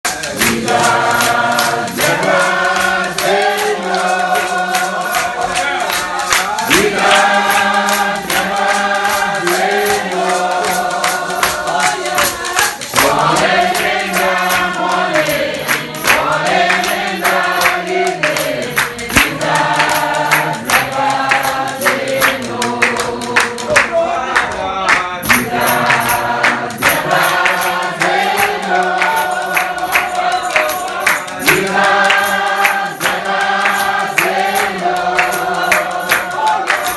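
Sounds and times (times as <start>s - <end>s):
steady sharp beat: 0.0s - 24.2s, 24.9s - 36.9s
congregation singing a hymn: 0.0s - 36.9s.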